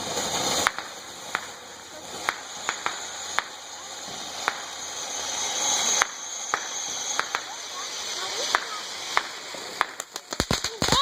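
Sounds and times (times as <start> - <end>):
fireworks popping: 0.0 - 11.0
steady high hiss: 0.0 - 11.0.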